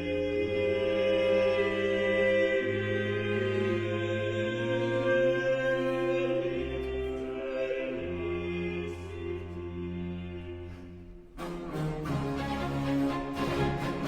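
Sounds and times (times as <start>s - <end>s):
baroque orchestral strings: 0.0s - 14.0s.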